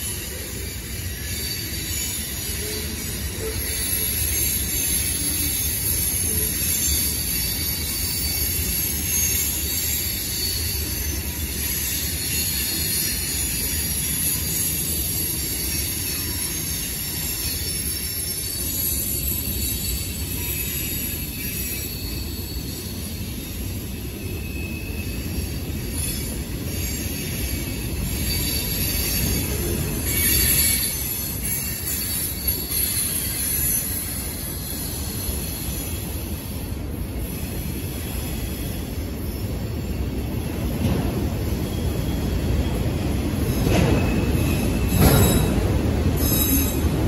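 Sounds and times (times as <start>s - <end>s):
train wheels rumbling on rails: 0.0s - 47.0s
wheel squeal: 0.0s - 47.0s.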